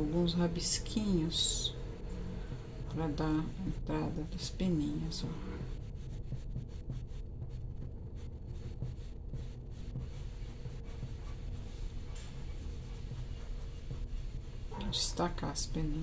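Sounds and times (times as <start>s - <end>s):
colored pencil scratching on paper: 0.0s - 16.0s
steady low hum: 0.0s - 16.0s.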